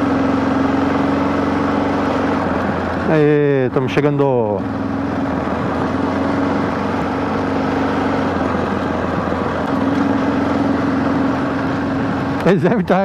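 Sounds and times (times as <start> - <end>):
motorcycle engine running: 0.0 - 13.0
steady rushing noise: 0.0 - 13.0.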